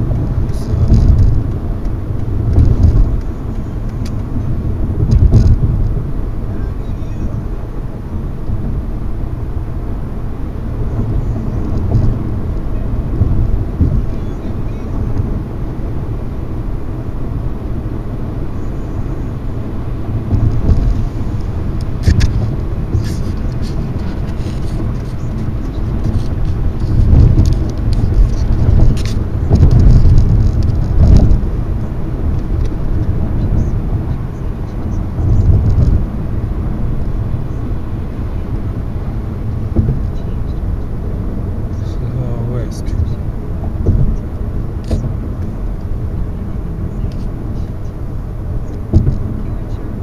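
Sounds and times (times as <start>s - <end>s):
road and engine rumble: 0.0s - 50.0s.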